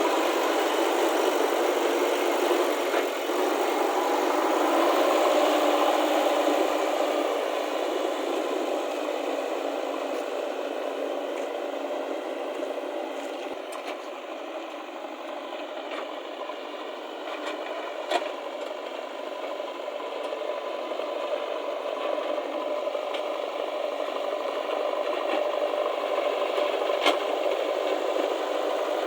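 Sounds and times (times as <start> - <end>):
backhoe engine running: 0.0 - 29.0.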